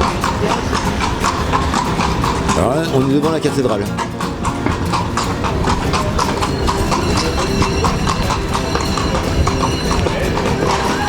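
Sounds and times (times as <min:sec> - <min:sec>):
horse hooves on stone: 0:00.0 - 0:11.0.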